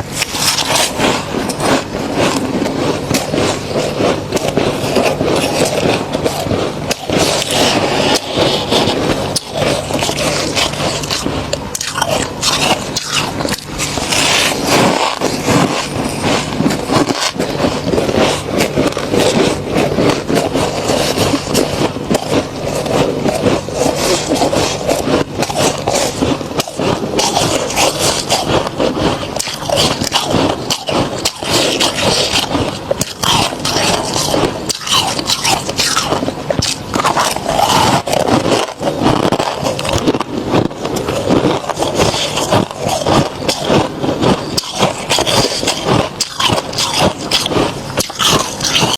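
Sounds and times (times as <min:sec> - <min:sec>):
frost scraped and crunched: 0:00.0 - 0:48.9
steady low hum: 0:00.0 - 0:48.9.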